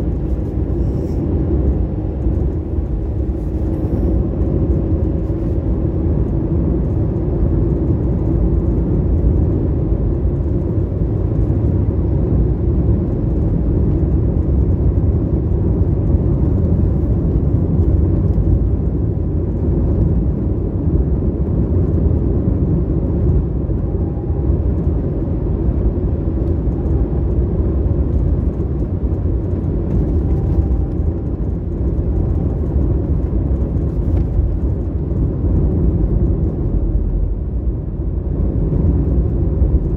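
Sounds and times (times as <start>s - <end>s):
car tyre and road noise: 0.0s - 39.9s.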